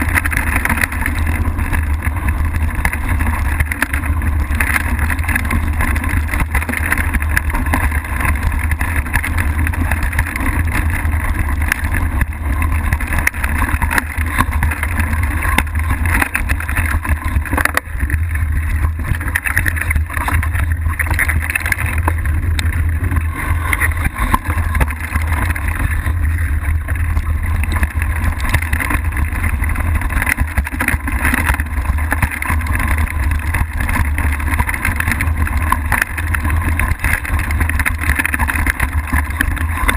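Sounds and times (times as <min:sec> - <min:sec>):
bike rattling and knocking: 0:00.0 - 0:39.9
wind and riding rumble: 0:00.0 - 0:39.9.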